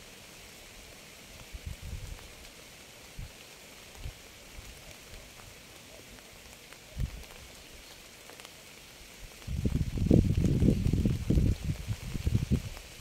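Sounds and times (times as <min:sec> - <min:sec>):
steady rain hiss: 0:00.0 - 0:13.0
rain drop ticks: 0:01.3 - 0:13.0.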